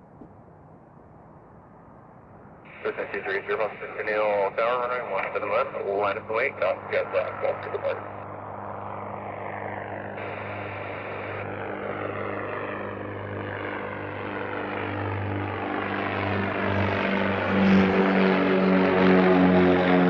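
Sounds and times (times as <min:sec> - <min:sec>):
propeller aircraft engine drone: 0:00.0 - 0:20.0.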